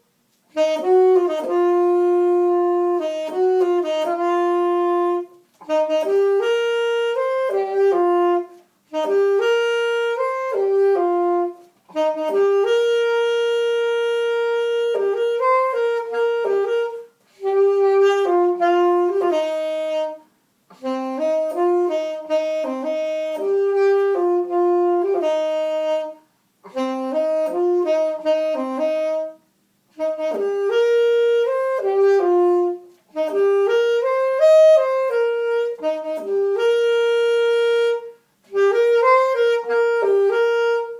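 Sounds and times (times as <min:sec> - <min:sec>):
solo saxophone melody: 0:00.0 - 0:40.9.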